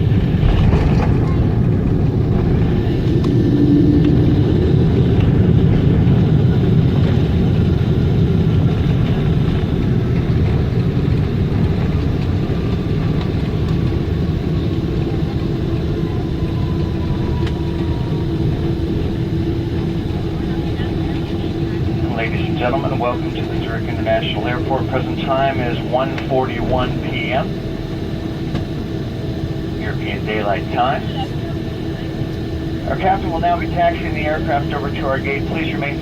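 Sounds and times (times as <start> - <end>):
airliner cabin rumble: 0.0 - 36.0
jet engines whining down: 0.0 - 36.0.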